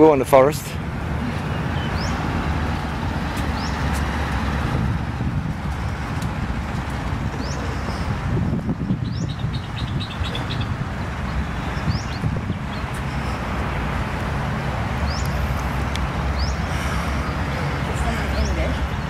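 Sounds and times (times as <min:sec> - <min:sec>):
outdoor low rumble: 0:00.8 - 0:18.0.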